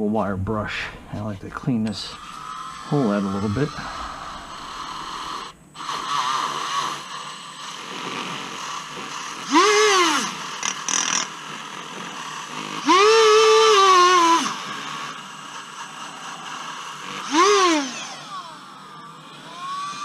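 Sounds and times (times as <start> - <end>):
rotary tool wire brush whining: 1.2 - 20.0.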